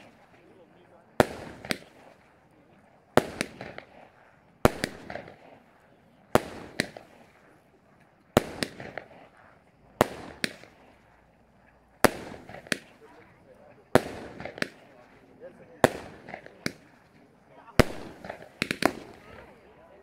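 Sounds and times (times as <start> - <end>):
fireworks bangs: 0.0 - 20.0
fireworks crackle: 0.0 - 20.0.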